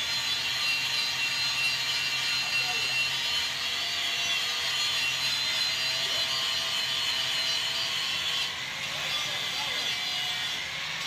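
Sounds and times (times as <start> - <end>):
angle grinder on metal wheel: 0.0 - 11.0.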